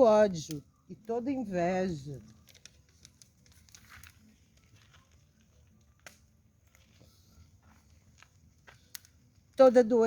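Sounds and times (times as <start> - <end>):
fire crackling and popping: 0.0 - 10.0.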